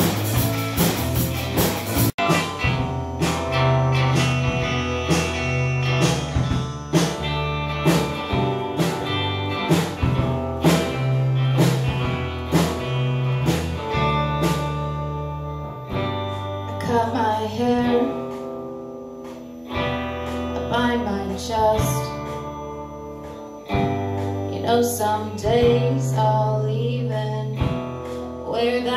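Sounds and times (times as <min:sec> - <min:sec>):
drum kit: 0:00.0 - 0:26.4, 0:27.1 - 0:28.9
electric guitars: 0:00.0 - 0:28.9.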